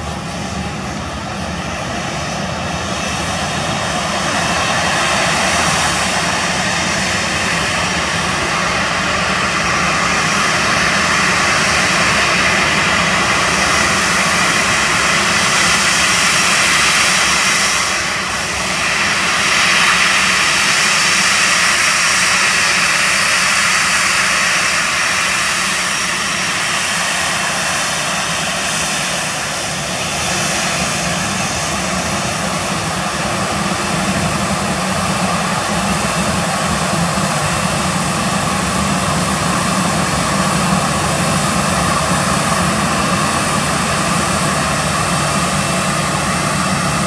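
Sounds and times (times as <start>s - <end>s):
jet engines taxiing: 0.0s - 47.0s.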